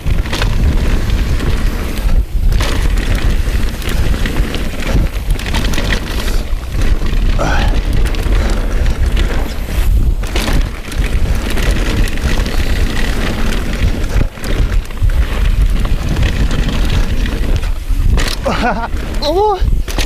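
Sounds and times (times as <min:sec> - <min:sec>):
bike rattling over bumps: 0:00.0 - 0:20.0
tyres rushing on dirt: 0:00.0 - 0:20.0
wind buffeting microphone: 0:00.0 - 0:20.0.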